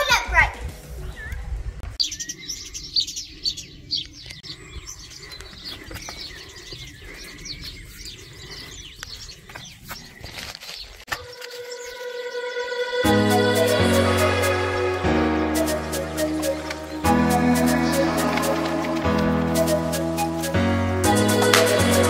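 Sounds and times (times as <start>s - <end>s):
small birds chirping: 0.9s - 20.5s.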